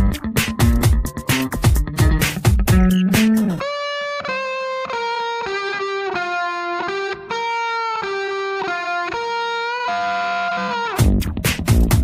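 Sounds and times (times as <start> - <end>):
guitar melody: 0.0 - 12.0.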